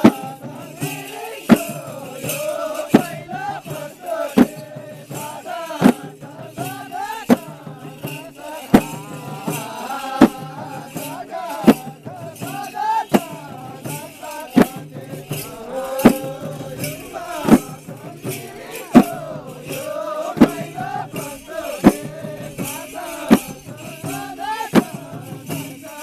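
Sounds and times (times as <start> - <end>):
small brass hand cymbals: 0.0 - 26.0
voices singing folk melody: 0.0 - 26.0.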